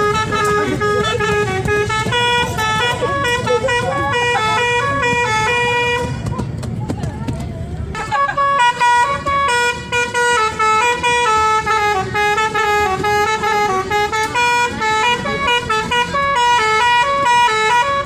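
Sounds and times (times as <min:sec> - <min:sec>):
musical air horn playing a tune: 0:00.0 - 0:06.2, 0:08.0 - 0:18.0.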